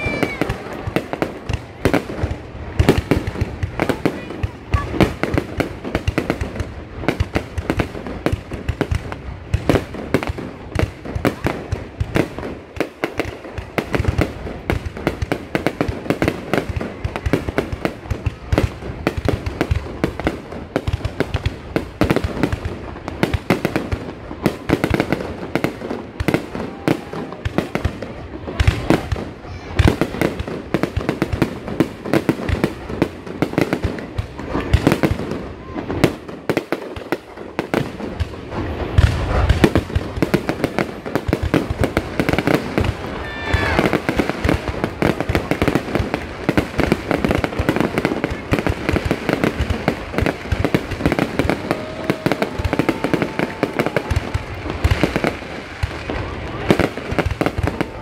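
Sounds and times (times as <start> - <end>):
fireworks bursting in a barrage: 0.0 - 58.0.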